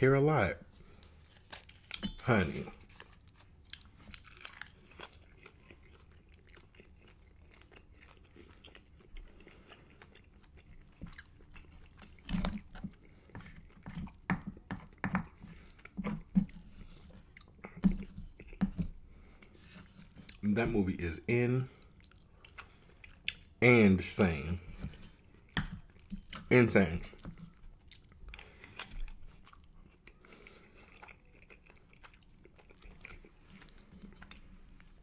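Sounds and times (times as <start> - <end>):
chewing: 0.9 - 20.4, 21.7 - 23.6, 24.9 - 35.0.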